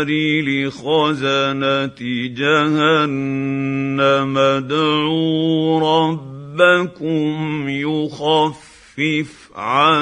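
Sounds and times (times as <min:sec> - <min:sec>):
man chanting melodic recitation: 0:00.0 - 0:10.0.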